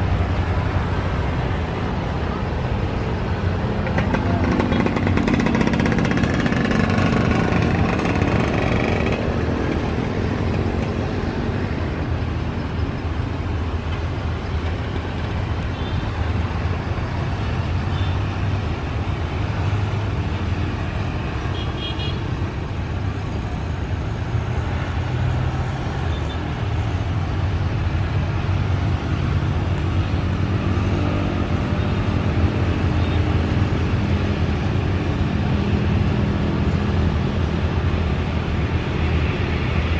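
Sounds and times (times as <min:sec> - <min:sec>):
cars passing: 0:00.0 - 0:39.9
motorcycles passing: 0:00.0 - 0:39.9.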